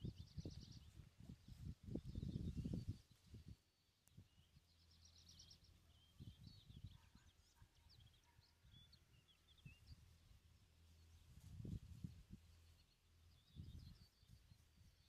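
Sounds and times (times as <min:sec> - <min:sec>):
faint songbirds chirping: 0:00.0 - 0:15.0.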